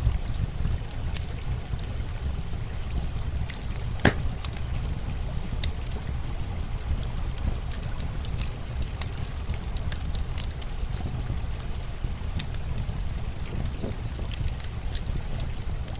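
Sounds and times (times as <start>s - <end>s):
campfire crackling and snapping: 0.0s - 15.9s
running water: 0.0s - 15.9s.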